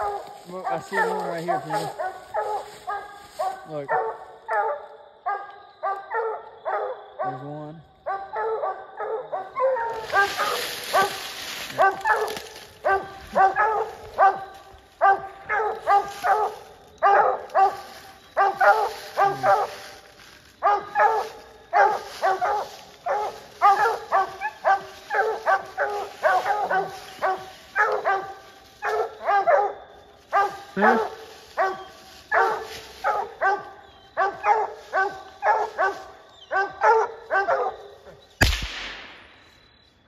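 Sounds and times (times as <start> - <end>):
hounds barking rapidly: 0.0 - 7.4, 8.0 - 38.2.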